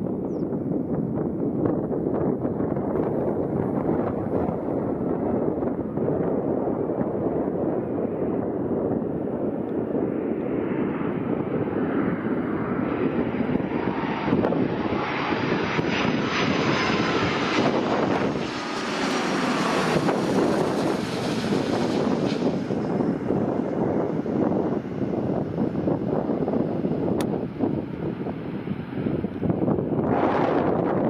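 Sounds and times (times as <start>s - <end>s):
jet airliner engines: 0.0s - 31.0s
wind on microphone: 0.0s - 31.0s.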